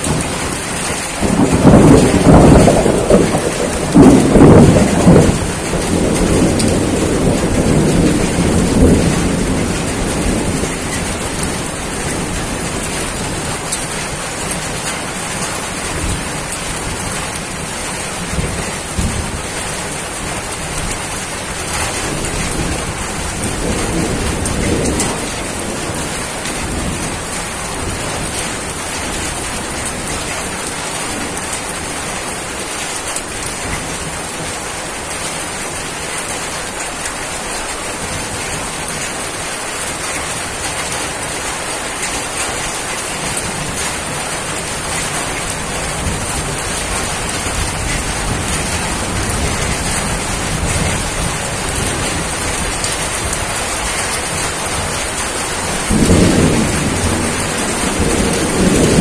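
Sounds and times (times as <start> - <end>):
thunder rumbling: 0.0 - 32.5, 40.0 - 59.0
heavy rain: 0.0 - 59.0.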